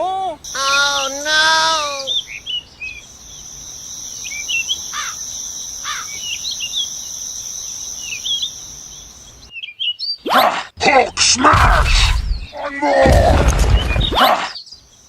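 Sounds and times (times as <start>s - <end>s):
insects droning: 0.0s - 9.5s, 10.6s - 15.0s
birds chirping: 0.0s - 15.0s
falling bird calls: 0.0s - 15.0s.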